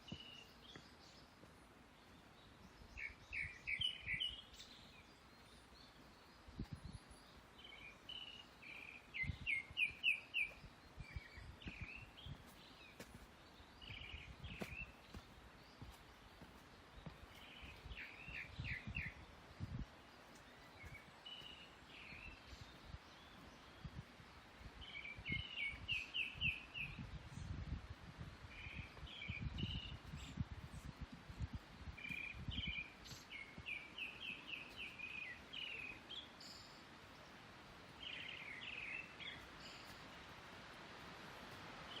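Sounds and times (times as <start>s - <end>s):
footsteps on forest trail: 0.0s - 27.0s, 28.1s - 42.0s
faint steady hiss: 0.0s - 42.0s
songbirds singing: 0.0s - 42.0s.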